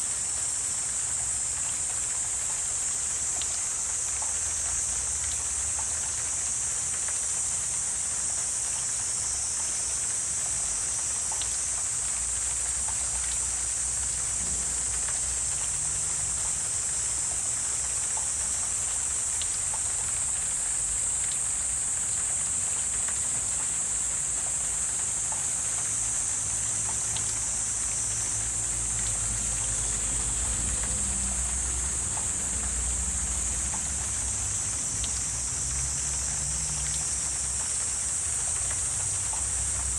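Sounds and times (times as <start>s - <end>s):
high-pitched insect chorus: 0.0s - 39.9s
small ticks and drips: 0.0s - 39.9s.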